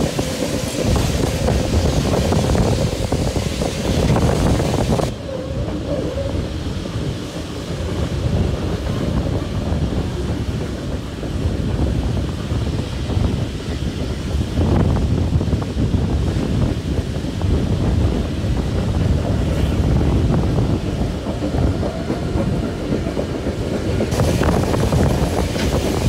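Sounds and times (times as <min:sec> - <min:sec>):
train wheels rumbling on rails: 0:00.0 - 0:26.0
wind on microphone: 0:00.0 - 0:26.0.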